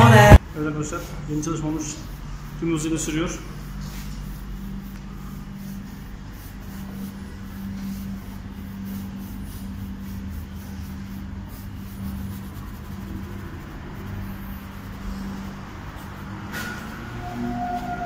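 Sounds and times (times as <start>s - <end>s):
steady low droning hum: 0.0s - 18.0s.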